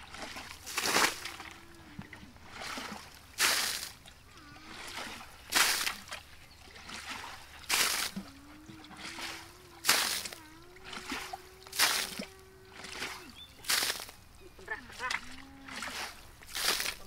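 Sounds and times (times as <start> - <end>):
faint steady hum: 0.0 - 17.0
water sloshing in bucket: 0.0 - 17.0
water splashing onto grass: 0.0 - 17.0.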